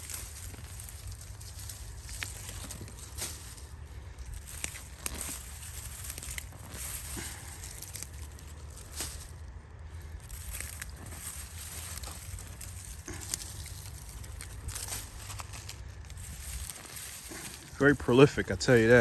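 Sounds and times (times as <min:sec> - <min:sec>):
dry stalks rustling and snapping: 0:00.0 - 0:19.0
low steady rumble: 0:00.0 - 0:19.0.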